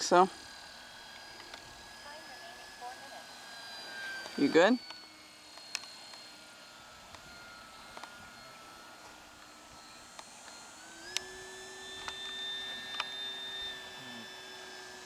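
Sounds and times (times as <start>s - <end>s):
model airplane electric motor whining: 0.0s - 15.0s.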